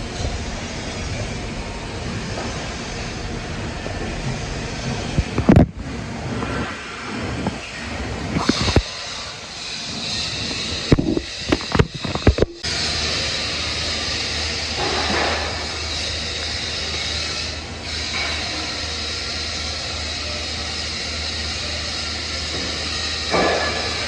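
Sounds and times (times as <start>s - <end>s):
welding arc crackling and hissing: 0.0s - 24.0s.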